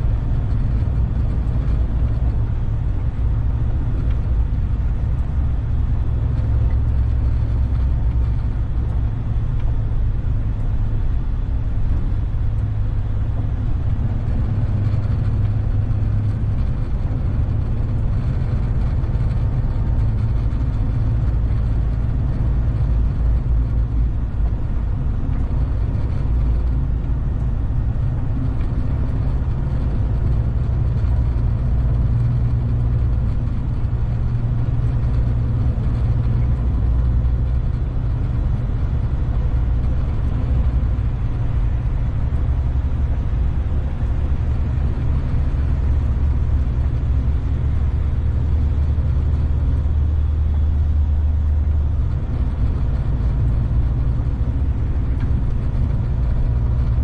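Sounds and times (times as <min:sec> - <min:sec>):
road noise: 0:00.0 - 0:57.0
truck engine rumble: 0:00.0 - 0:57.0.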